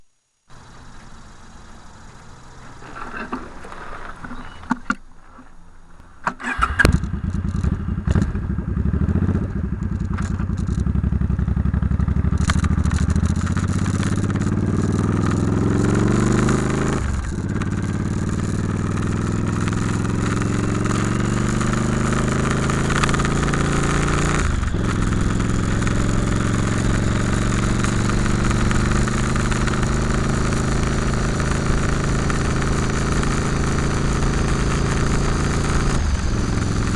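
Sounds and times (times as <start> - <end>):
motorcycle engine: 0.0 - 5.5, 6.2 - 36.9.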